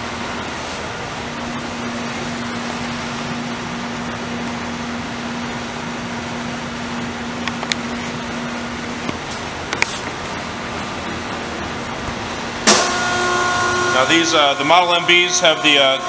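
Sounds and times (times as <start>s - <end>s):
hydraulic power unit humming: 0.0s - 16.0s.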